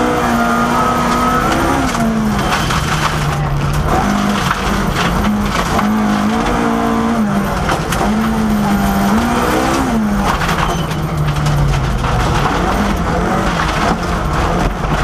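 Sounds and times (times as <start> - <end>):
gravel rushing under tyres: 0.0 - 15.0
rally car engine revving: 0.0 - 15.0.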